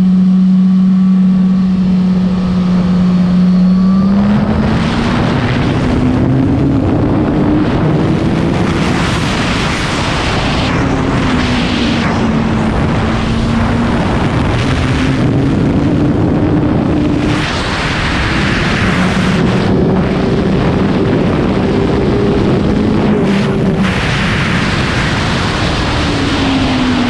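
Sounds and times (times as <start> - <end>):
motorcycle engine at speed: 0.0 - 27.0
wind rush: 0.0 - 27.0.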